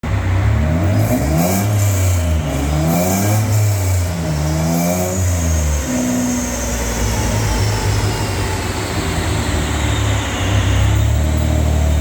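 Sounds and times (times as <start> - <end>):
car engine revving: 0.1 - 12.0.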